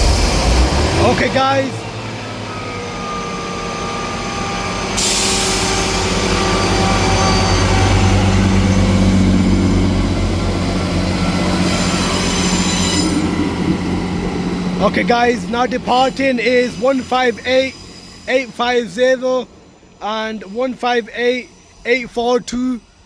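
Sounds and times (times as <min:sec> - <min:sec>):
loud hiss: 0:00.0 - 0:02.2, 0:03.4 - 0:23.0
train engines droning: 0:00.0 - 0:23.0.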